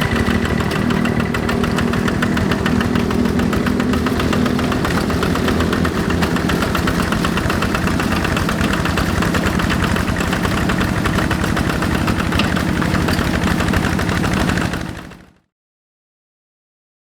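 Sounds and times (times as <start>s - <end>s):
diesel engine running: 0.0s - 15.3s.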